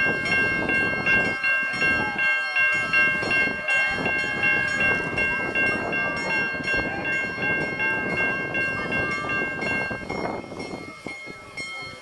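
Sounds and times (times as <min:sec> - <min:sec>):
bell ringing rapidly: 0:00.0 - 0:12.0
murmur of crowd: 0:00.0 - 0:12.0.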